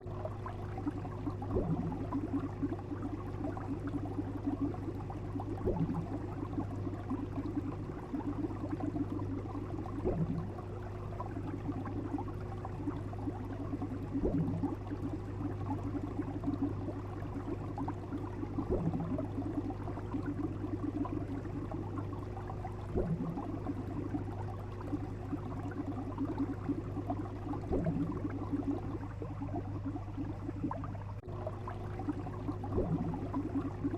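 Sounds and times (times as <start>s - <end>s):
low hum: 0.0s - 33.9s
water bubbling: 0.0s - 33.9s.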